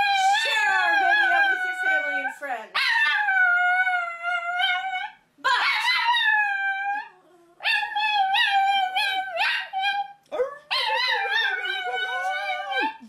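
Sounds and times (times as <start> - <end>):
dog howling: 0.0 - 13.0.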